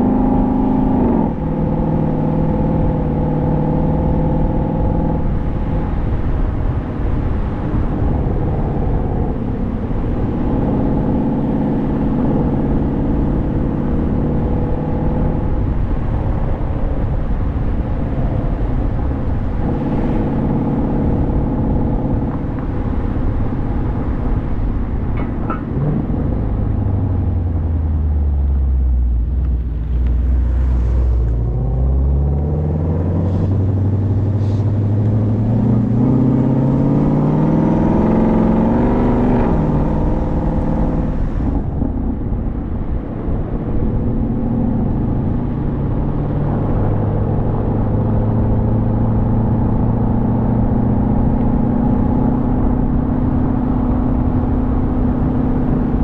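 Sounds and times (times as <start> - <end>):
car engine accelerating: 0.0 - 56.0
road and wind hiss: 0.0 - 56.0.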